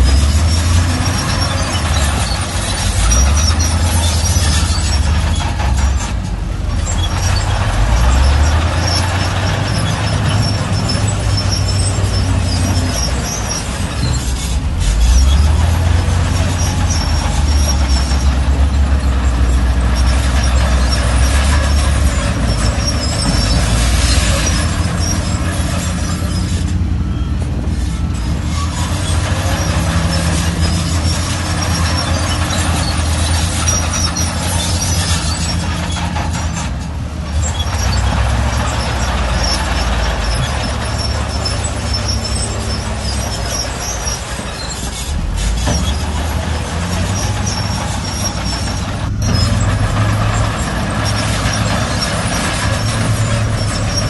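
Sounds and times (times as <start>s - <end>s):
high-pitched machine squeaks: 0.0s - 6.1s, 6.8s - 54.0s
bulldozer diesel engine rumbling: 0.0s - 54.0s.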